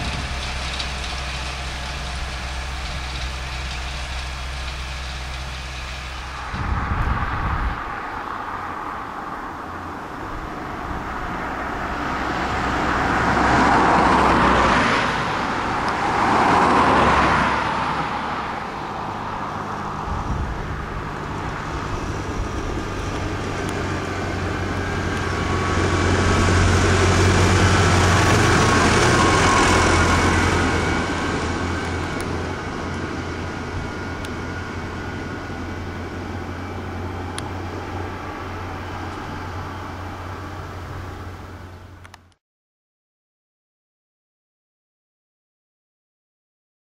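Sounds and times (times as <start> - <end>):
cars passing: 0.0 - 42.3
tractor diesel engine droning: 0.0 - 42.3.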